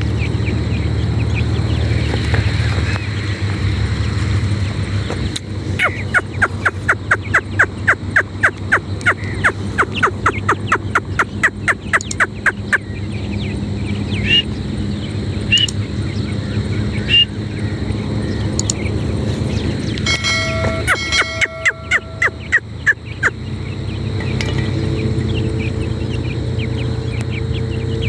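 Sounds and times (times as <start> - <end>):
francolin calling: 0.0 - 28.0
low hum: 0.0 - 28.0.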